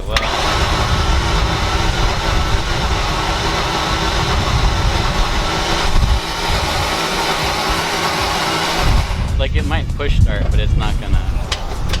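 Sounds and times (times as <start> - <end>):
car engine cranking without starting: 0.0 - 9.5, 11.2 - 12.0.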